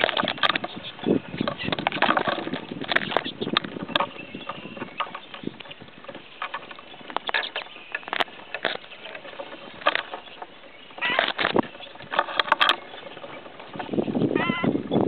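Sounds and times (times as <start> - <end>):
birds pecking seed on wooden feeder: 0.0 - 15.0.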